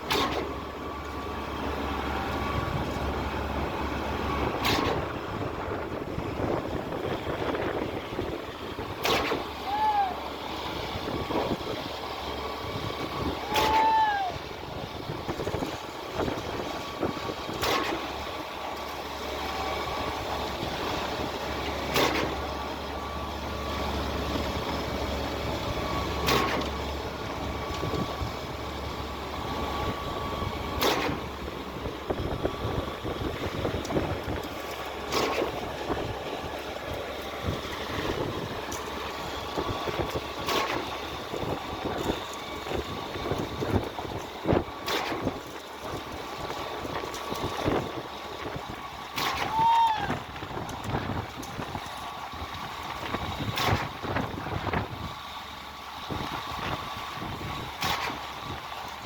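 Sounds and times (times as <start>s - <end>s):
concrete pump engine running: 0.0s - 59.0s.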